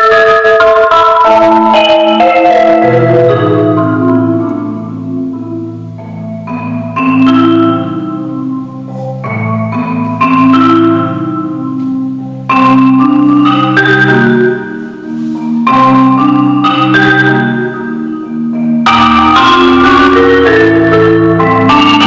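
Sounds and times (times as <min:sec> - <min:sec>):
pitched percussion music: 0:00.0 - 0:22.0.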